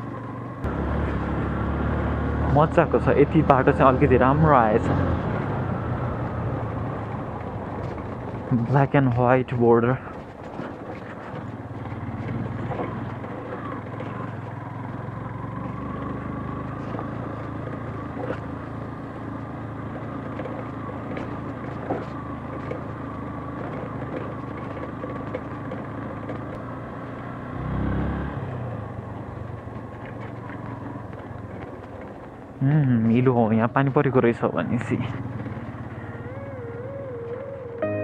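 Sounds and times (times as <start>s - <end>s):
motorcycle engine running: 0.0s - 38.0s
faint road clicks: 6.5s - 27.8s, 28.4s - 37.8s.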